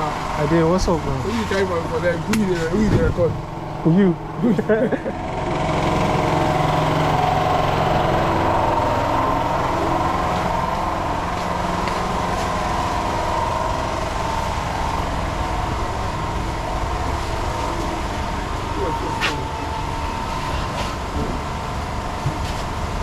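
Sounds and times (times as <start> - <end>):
generators droning: 0.0 - 23.0.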